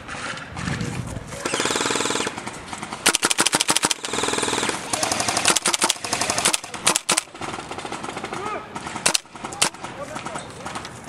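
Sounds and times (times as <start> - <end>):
airsoft guns firing: 1.4 - 11.0.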